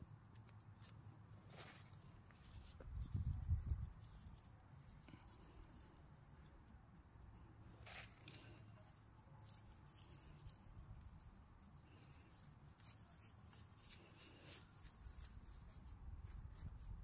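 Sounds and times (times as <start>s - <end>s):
hand rustling dry soil and seeds: 0.0s - 17.0s.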